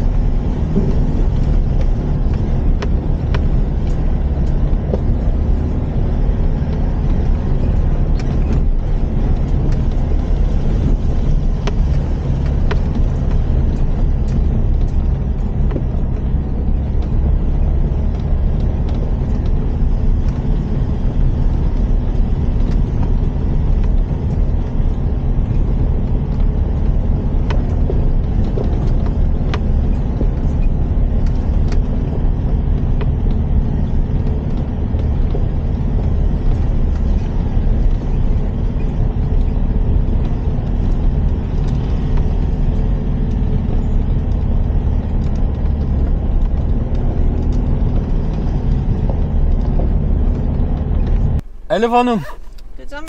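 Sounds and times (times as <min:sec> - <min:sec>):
engine and road rumble: 0:00.0 - 0:53.0.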